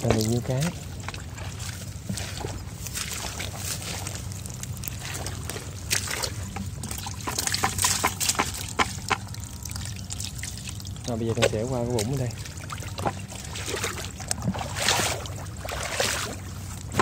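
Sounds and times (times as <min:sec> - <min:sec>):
fish splashing into water: 0:00.0 - 0:17.0
water trickling and dripping: 0:00.0 - 0:17.0.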